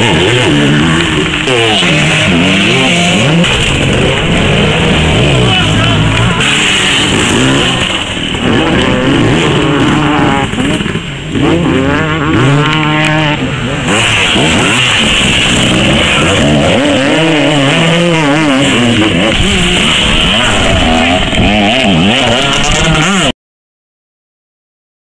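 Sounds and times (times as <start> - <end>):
motocross bike engines revving: 0.0 - 23.3.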